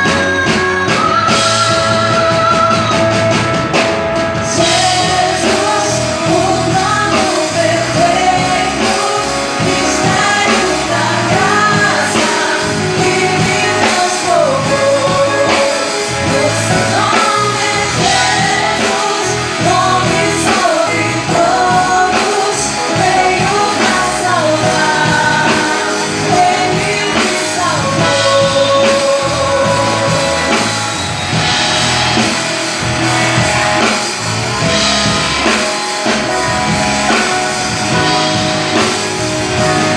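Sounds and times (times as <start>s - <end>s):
band playing drums and guitar: 0.0s - 39.9s
person singing: 0.0s - 39.9s.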